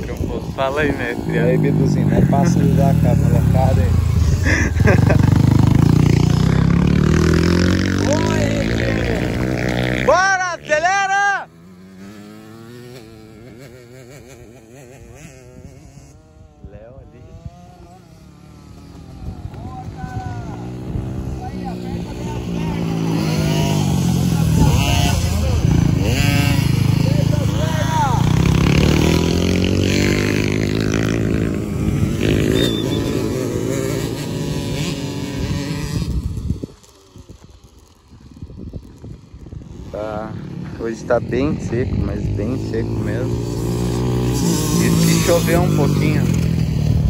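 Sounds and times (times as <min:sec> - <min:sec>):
small motorbike engine revving: 0:00.0 - 0:47.0.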